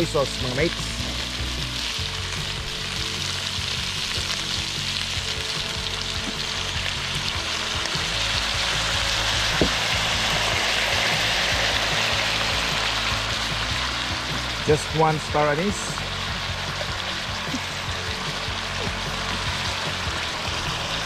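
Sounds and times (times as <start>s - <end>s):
ribs sizzling in a pan: 0.0s - 21.0s.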